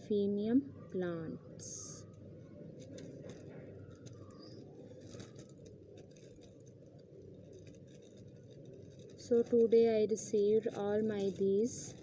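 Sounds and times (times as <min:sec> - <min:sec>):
low background noise: 0:00.0 - 0:12.0
plastic packets crinkling: 0:01.6 - 0:12.0.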